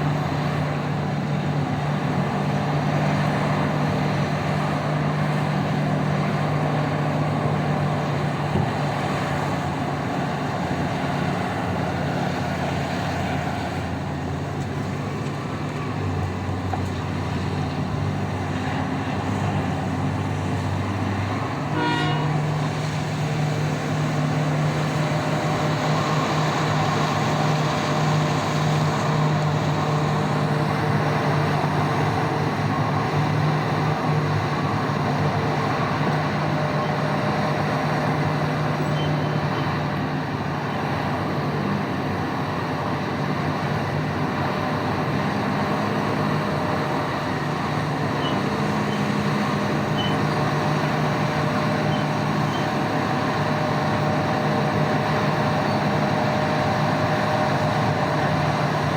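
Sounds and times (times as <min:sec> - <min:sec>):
large diesel engines droning: 0:00.0 - 0:58.9.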